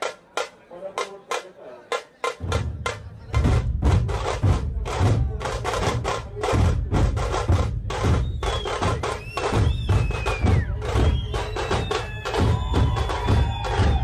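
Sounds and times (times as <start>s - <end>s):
sharp drum strikes: 2.3s - 14.0s
heavy bass drums: 2.4s - 14.0s.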